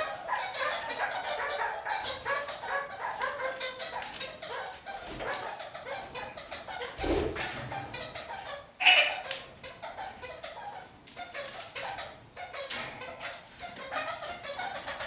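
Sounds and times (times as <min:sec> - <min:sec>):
parakeets chattering: 0:00.0 - 0:15.0.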